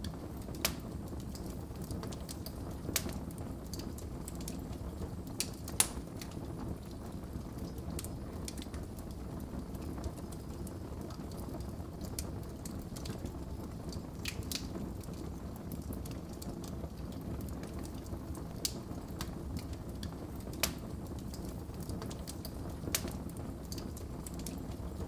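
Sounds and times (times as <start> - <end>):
fire crackles and pops: 0.0 - 25.0
fire flames rumbling: 0.0 - 25.0.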